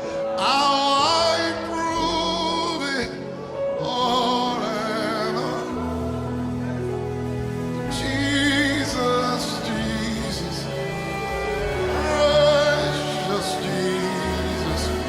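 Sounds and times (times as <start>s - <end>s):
person singing with vibrato: 0.0s - 15.0s
sustained keyboard chords: 0.0s - 15.0s.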